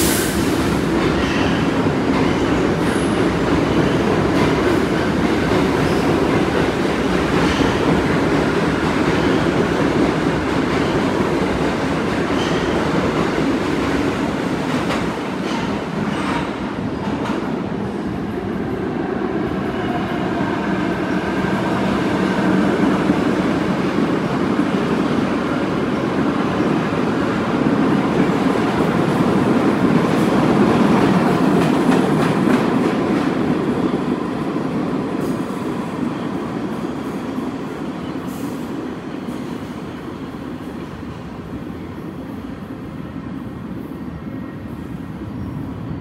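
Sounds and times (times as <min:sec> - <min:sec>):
subway train rumbling past: 0:00.0 - 0:46.0.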